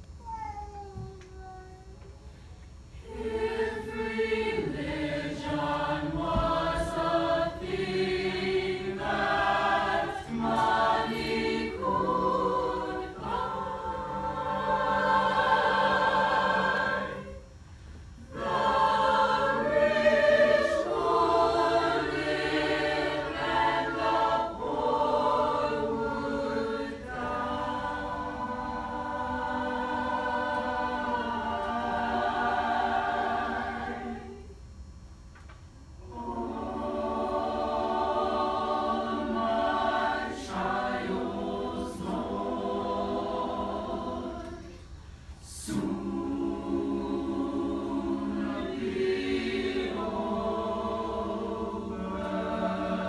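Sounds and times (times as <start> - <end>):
mixed choir singing: 3.0 - 17.6, 18.2 - 34.6, 36.0 - 53.0.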